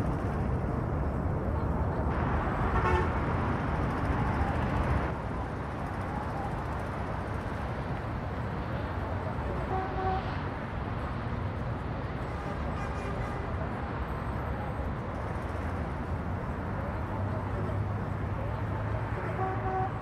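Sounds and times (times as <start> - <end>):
rumble of passing traffic: 0.0 - 20.0.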